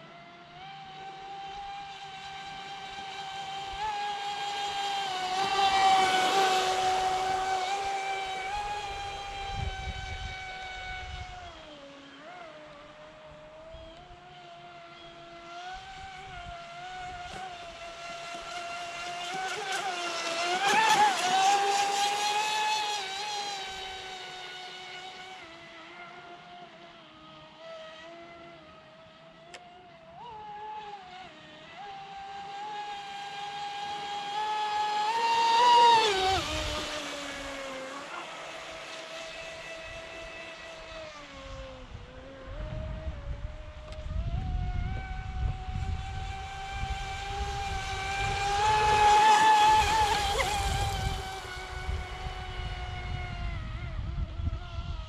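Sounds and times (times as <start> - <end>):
model boat electric motor whining: 0.0 - 55.0.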